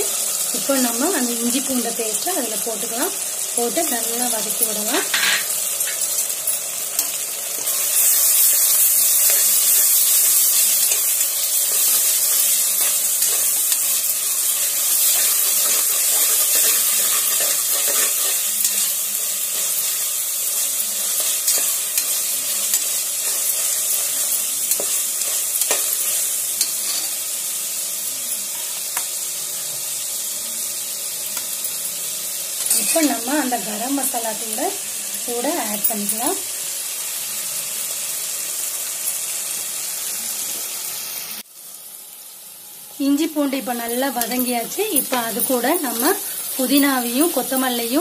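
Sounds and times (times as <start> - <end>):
paste sizzling in oil: 0.0 - 48.0.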